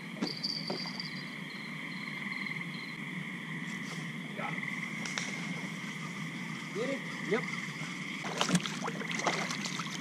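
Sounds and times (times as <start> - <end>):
frogs trilling: 0.0 - 10.0
insects chirping: 0.0 - 10.0.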